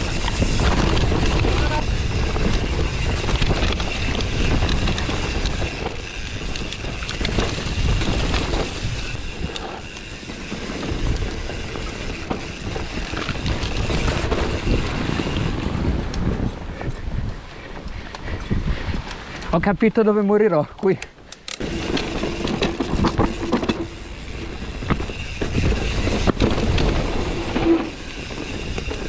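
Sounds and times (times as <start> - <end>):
bike rattling clicks and knocks: 0.0 - 19.6, 20.7 - 29.0
wind buffeting microphone: 0.0 - 20.0, 21.6 - 29.0.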